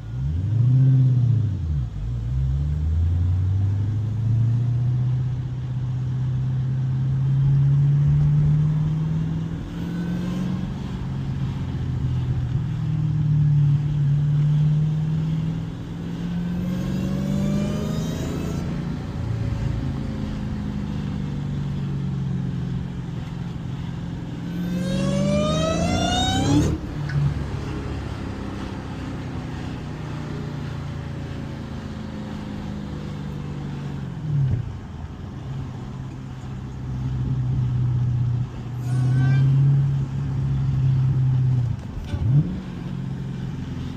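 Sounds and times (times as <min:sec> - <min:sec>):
car engine revving through gears: 0:00.0 - 0:43.9.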